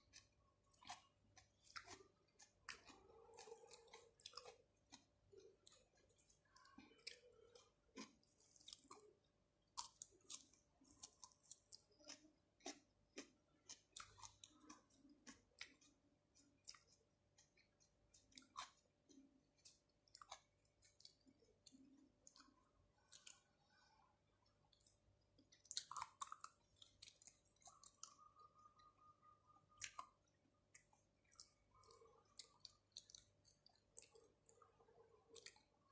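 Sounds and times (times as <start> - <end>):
person chewing wet food: 0.0 - 35.9.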